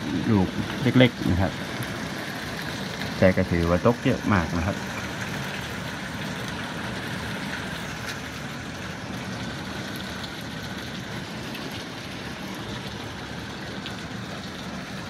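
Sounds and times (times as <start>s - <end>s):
hail falling hiss: 0.0s - 15.0s
hailstones clicking on cars: 0.0s - 15.0s.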